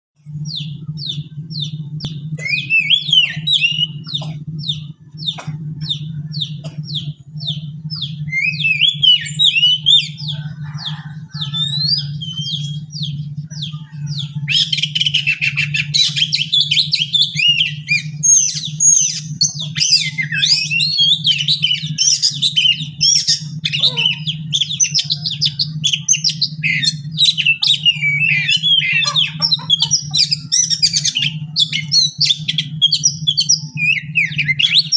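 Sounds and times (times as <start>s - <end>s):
steady low hum: 0.2s - 34.9s
bird whistling and warbling: 0.4s - 34.9s.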